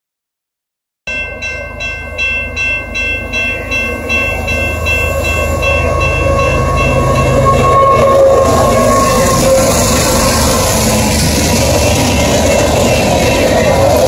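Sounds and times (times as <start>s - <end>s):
crossing bell ringing: 1.1s - 14.0s
diesel locomotive engine rumble: 1.1s - 14.0s
steady tone: 1.1s - 14.0s.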